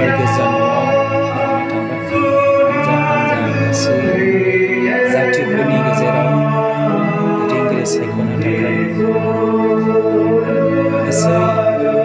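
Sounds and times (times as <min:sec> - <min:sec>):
slow hymn singing: 0:00.0 - 0:12.0.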